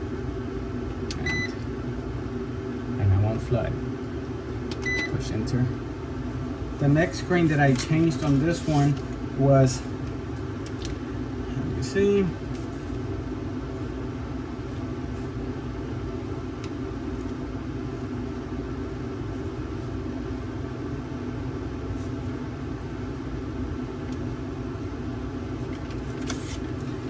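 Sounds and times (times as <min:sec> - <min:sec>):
machine hum with low rumble: 0:00.0 - 0:27.0.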